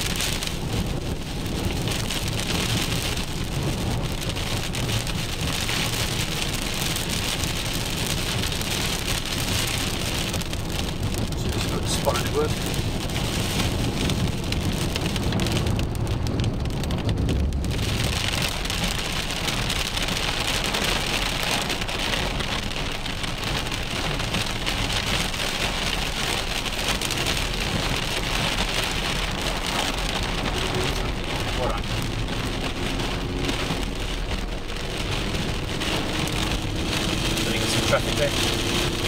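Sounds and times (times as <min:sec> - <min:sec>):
low steady rumble: 0:00.0 - 0:39.0
rain on car roof: 0:00.0 - 0:39.0.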